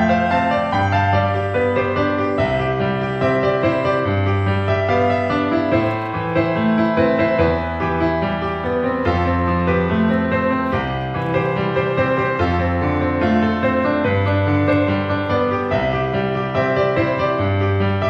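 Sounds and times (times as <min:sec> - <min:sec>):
piano chords: 0:00.0 - 0:18.0.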